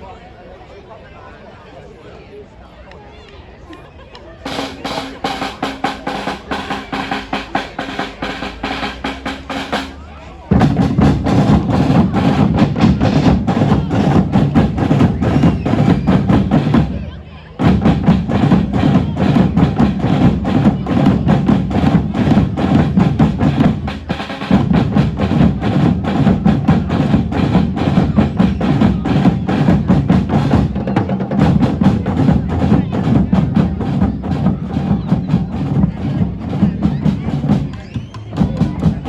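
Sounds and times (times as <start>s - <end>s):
drummers playing fast rhythm: 4.4s - 39.0s.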